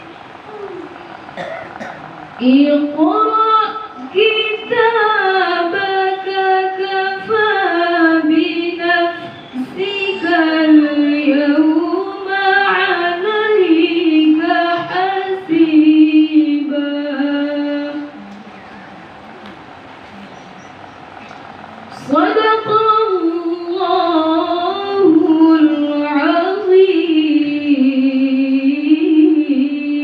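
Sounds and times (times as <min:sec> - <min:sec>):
woman reciting melodically: 0:00.0 - 0:19.3, 0:20.2 - 0:30.0.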